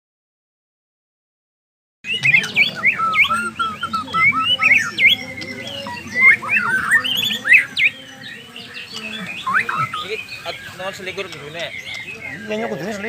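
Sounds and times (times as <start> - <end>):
songbird whistling varied notes: 2.1 - 12.6.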